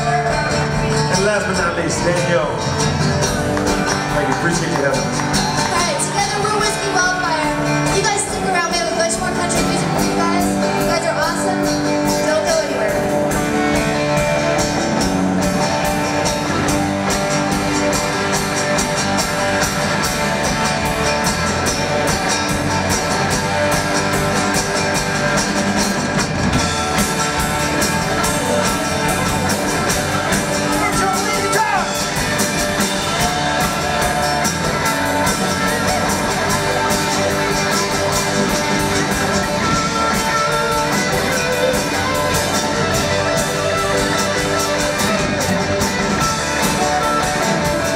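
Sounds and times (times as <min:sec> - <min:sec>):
live band playing: 0:00.0 - 0:47.9.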